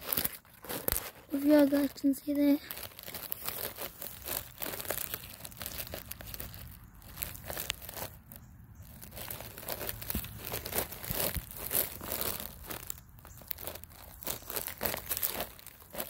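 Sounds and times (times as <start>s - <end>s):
crackling of dry pine straw: 0.0s - 16.0s.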